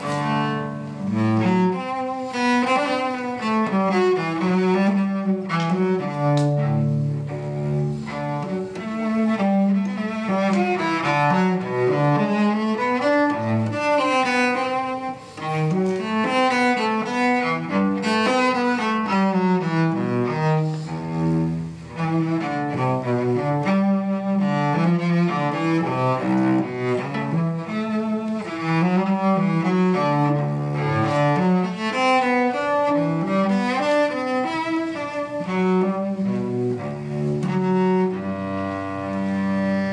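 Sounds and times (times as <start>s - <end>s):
bowed cello: 0.0s - 39.9s.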